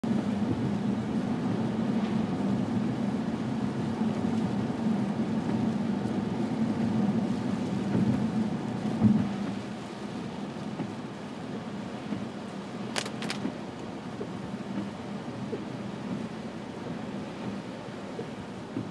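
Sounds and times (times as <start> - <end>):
car engine and tyre hum: 0.0 - 18.9.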